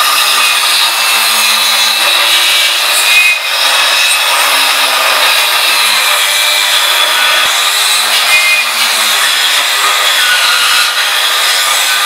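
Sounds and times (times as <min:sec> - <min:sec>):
circular saw cutting wood: 0:00.0 - 0:12.0.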